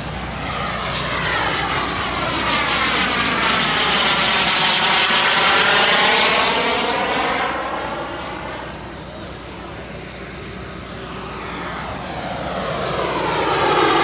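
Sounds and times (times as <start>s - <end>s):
jet turbine whoosh passing: 0.0s - 14.0s.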